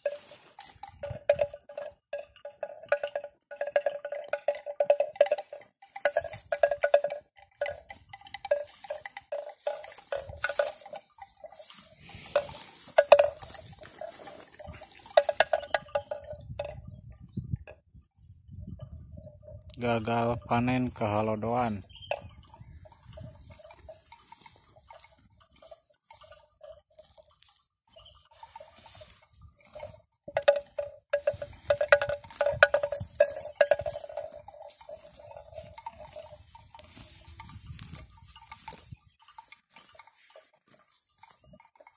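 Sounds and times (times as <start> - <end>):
animal bell clanking: 0.0 - 41.9.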